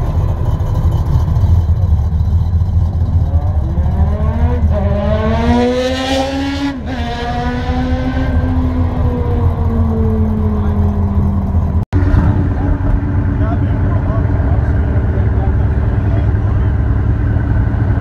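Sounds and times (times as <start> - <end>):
muscle car engine rumbling: 0.0 - 18.0.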